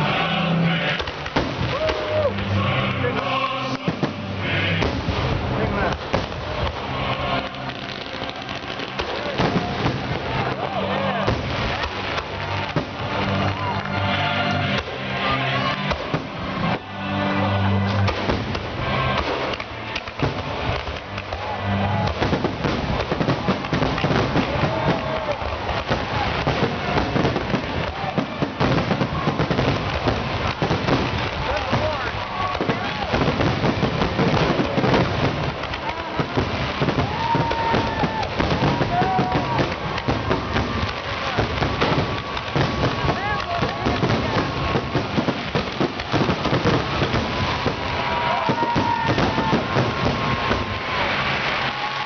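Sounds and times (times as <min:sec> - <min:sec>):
fireworks bursting and crackling: 0:00.0 - 0:52.0
music: 0:00.0 - 0:52.0.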